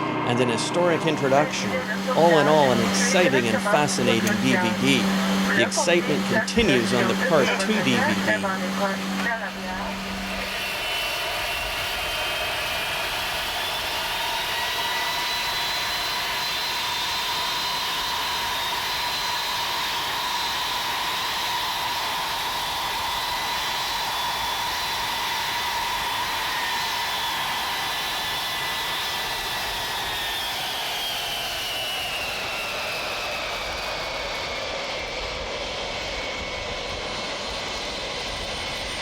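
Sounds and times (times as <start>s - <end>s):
jet engines rushing and whining: 0.0s - 39.0s.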